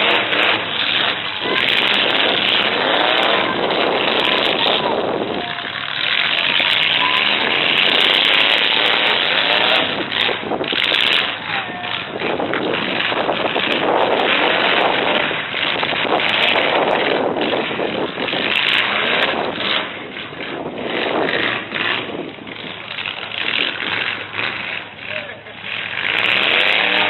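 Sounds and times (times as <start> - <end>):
truck engines revving: 0.0 - 27.0.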